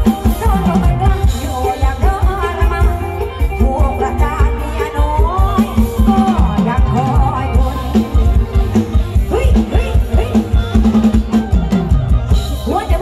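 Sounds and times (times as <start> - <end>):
woman singing: 0.0 - 11.4, 12.4 - 13.0
live band music: 0.0 - 13.0.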